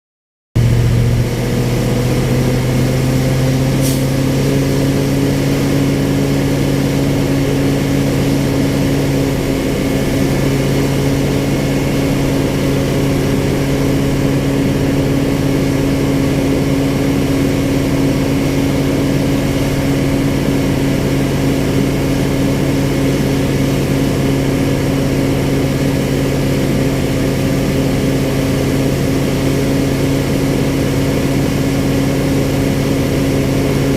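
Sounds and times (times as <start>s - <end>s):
baler motor humming: 0.6s - 33.9s.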